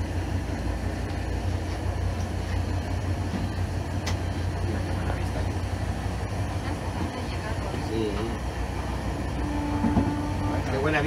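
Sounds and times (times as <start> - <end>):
train rumble and hum: 0.0 - 11.0.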